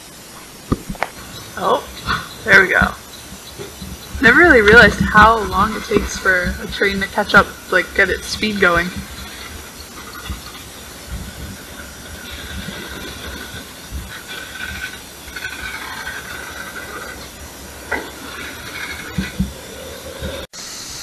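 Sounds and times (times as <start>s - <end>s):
high whining tones: 0.0s - 21.0s
freight train rolling past: 1.1s - 20.5s.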